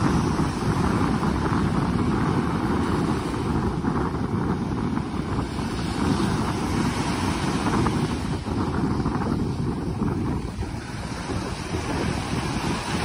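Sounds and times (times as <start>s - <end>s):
waves washing up a beach: 0.0s - 13.0s
wind buffeting microphone: 0.0s - 13.0s.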